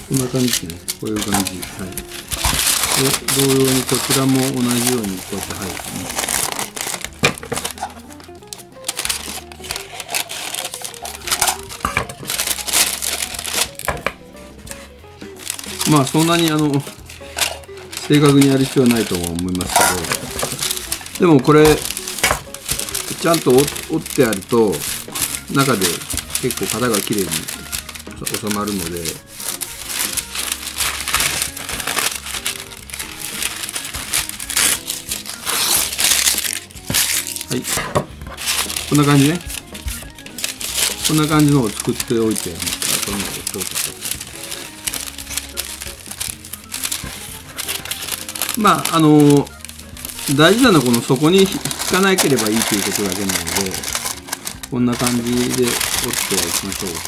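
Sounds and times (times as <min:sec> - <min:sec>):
background music: 0:00.0 - 0:57.0
paper crinkling and rustling: 0:00.0 - 0:57.0.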